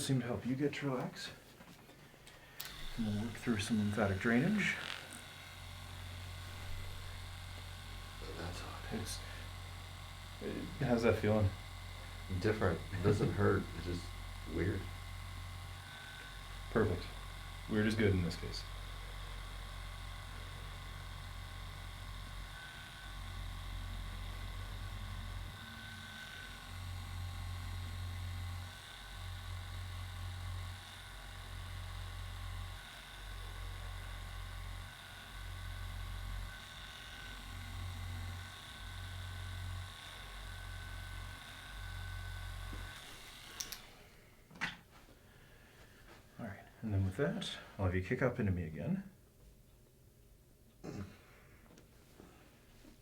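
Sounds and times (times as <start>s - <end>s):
low electric hum: 0.0s - 53.0s.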